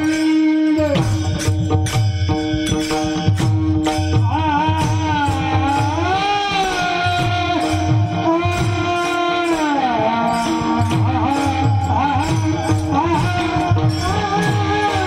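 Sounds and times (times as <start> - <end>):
hand drum beat: 0.0 - 15.0
small cymbals: 0.0 - 15.0.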